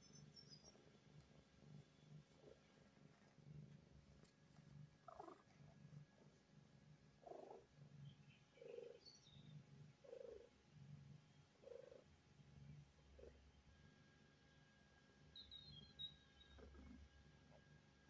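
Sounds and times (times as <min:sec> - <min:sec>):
cat purring: 0:00.0 - 0:14.7, 0:16.4 - 0:18.0.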